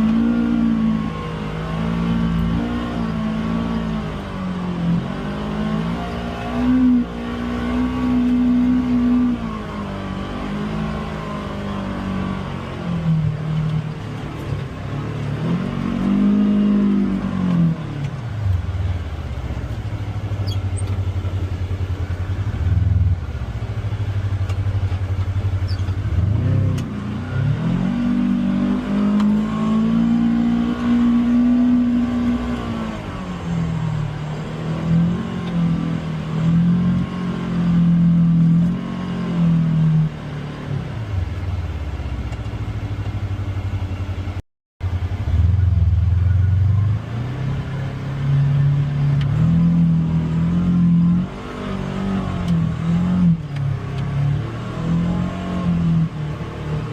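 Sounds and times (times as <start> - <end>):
utility vehicle engine revving: 0.0 - 56.9.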